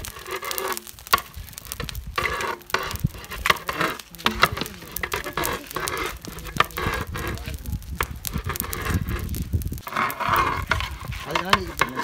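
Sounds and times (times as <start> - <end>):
metal ladle scraping rice in pot: 0.0 - 1.3, 2.2 - 7.5, 8.4 - 12.0.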